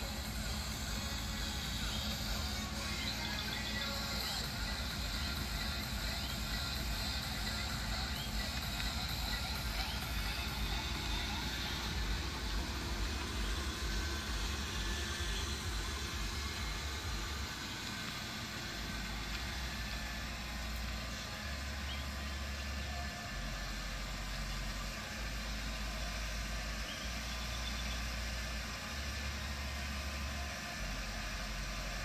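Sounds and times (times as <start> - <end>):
car engine idling: 0.0 - 32.0
constant hiss: 0.0 - 32.0.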